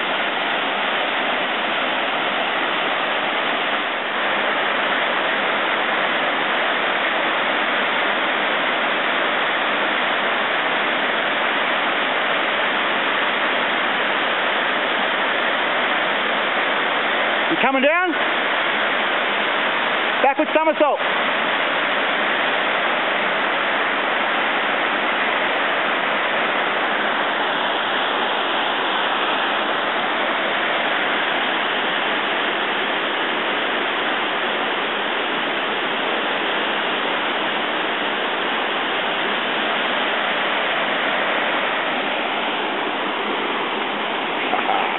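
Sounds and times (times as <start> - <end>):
water rushing over rock: 0.0 - 44.9.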